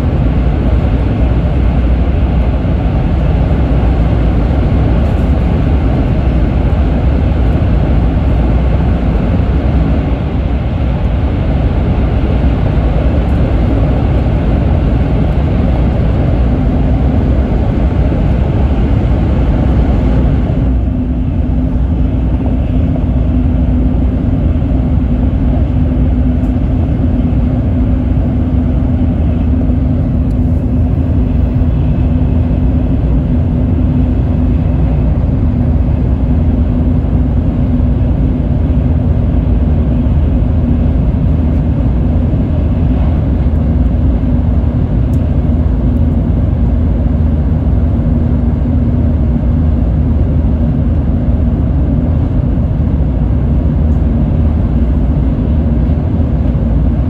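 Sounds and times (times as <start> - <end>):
steady low hum: 0.0 - 57.0
train running noise inside car: 0.0 - 57.0.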